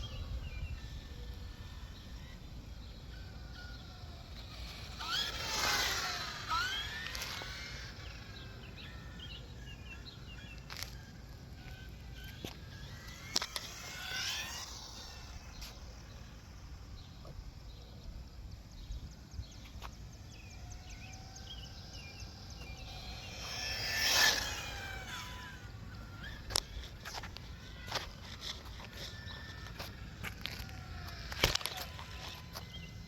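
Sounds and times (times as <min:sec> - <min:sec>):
outdoor background noise: 0:00.0 - 0:33.0
rc car motor whine: 0:00.0 - 0:33.0.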